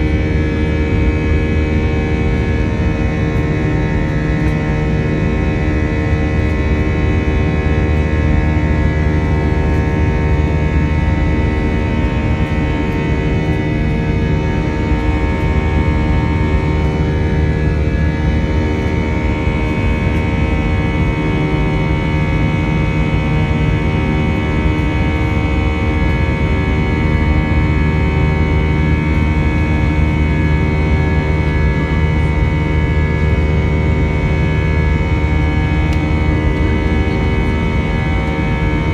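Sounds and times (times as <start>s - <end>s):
jet engines droning in cabin: 0.0s - 38.9s
steady humming tones: 0.0s - 38.9s.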